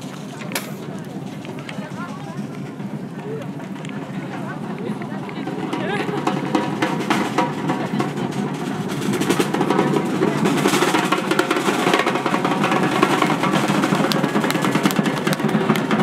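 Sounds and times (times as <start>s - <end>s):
bass drums played with sticks: 0.0s - 16.0s.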